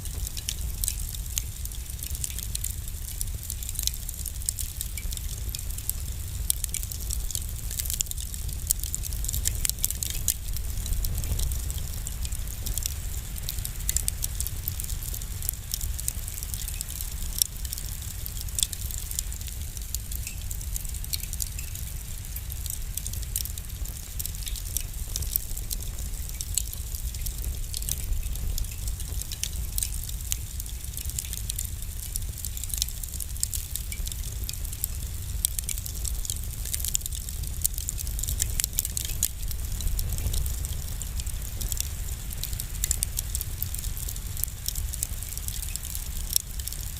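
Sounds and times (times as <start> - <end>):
low rumble of flames: 0.0 - 46.9
wood fire crackling: 0.0 - 46.9.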